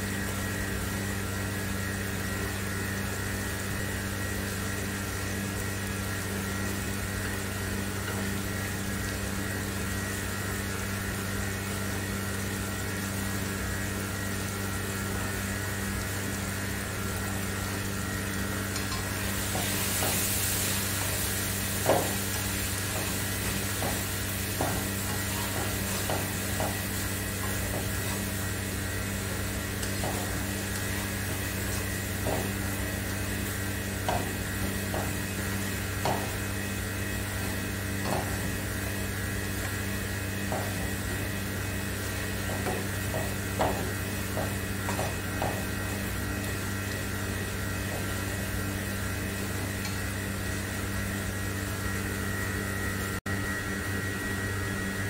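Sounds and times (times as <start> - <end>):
steady hum with hiss: 0.0 - 55.0.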